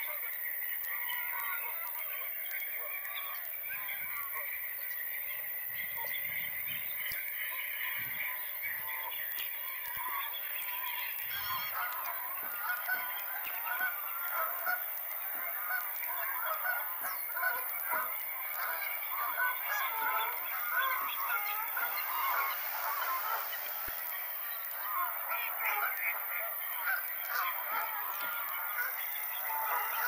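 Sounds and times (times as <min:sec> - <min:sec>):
geese honking: 0:00.0 - 0:30.0.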